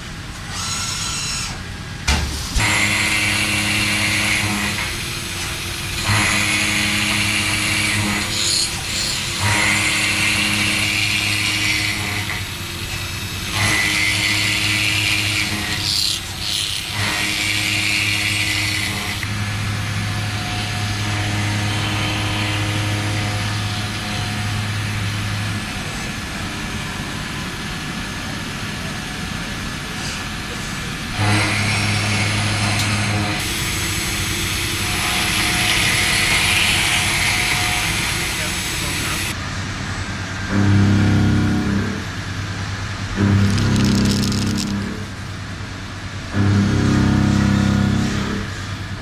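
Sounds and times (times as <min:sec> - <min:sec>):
machine hum: 0:02.6 - 0:29.9, 0:31.0 - 0:49.0.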